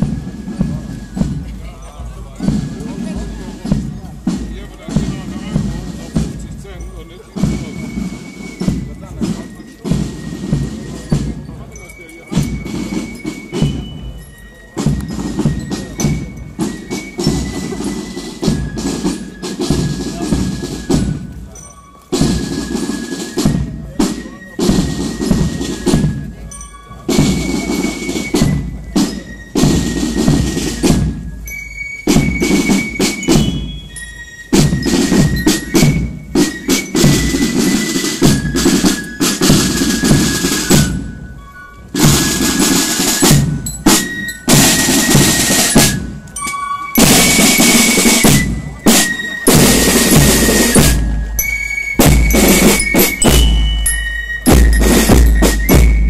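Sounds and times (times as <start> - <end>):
snare drums rolling: 0.0 - 56.0.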